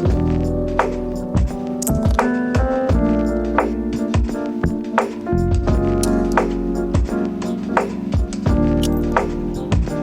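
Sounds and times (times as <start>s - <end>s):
piano chords: 0.0s - 10.0s
steady drum beat: 0.0s - 10.0s.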